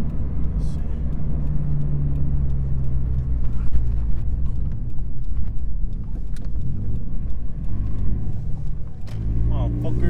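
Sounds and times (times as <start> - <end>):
car engine droning: 0.0 - 10.0
tyre and road noise: 0.0 - 10.0.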